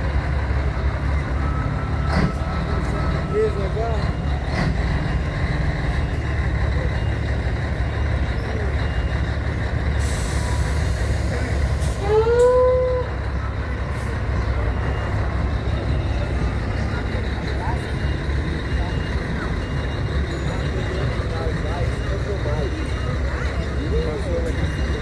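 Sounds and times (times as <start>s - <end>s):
large vehicle engine rumbling: 0.0s - 25.0s.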